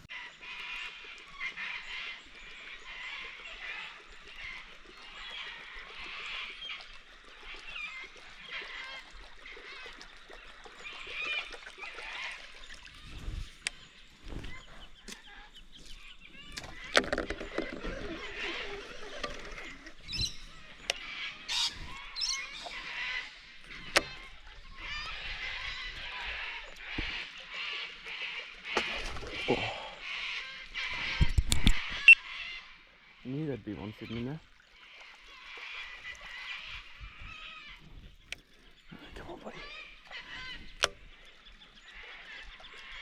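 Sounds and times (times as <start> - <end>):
birds calling: 0.0 - 43.0.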